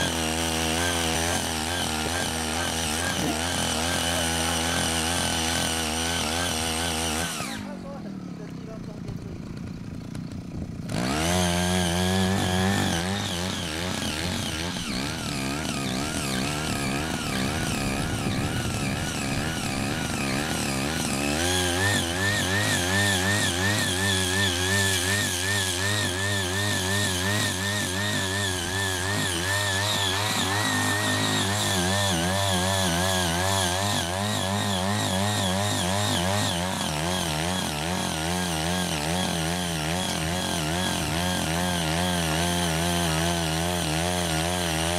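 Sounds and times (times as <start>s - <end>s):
rotary tines tilling soil: 0.0s - 44.9s
small engine running under load: 0.0s - 44.9s.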